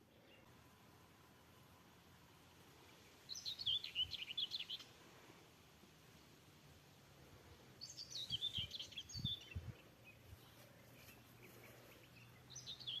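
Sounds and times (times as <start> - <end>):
birds chirping: 0.0 - 5.0, 6.2 - 13.0.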